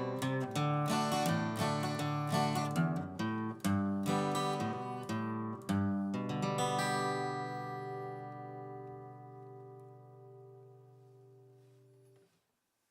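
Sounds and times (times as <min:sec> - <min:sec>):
acoustic guitar strumming: 0:00.0 - 0:12.1.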